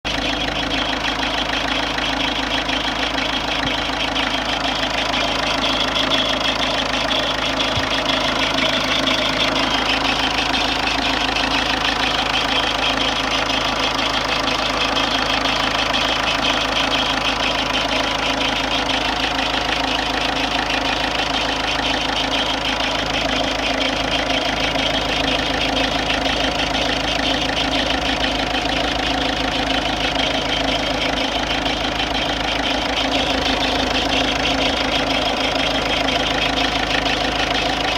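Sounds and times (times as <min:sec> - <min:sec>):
diesel engine idling with clatter: 0:00.0 - 0:37.9.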